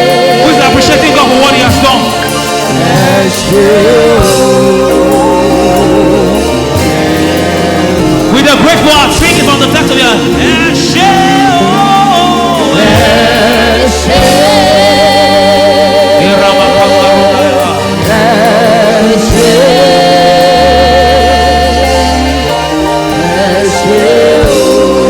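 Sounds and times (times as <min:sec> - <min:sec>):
choir singing held notes: 0:00.0 - 0:25.0
live band with steady bass: 0:00.0 - 0:25.0.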